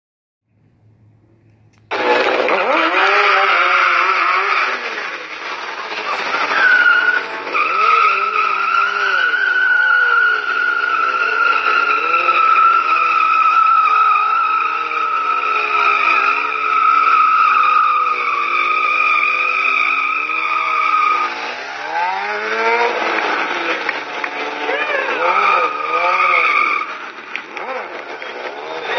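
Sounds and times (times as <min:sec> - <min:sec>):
motorcycle engine revving: 0:00.6 - 0:28.9
motorcycle tyre squealing: 0:01.8 - 0:28.9.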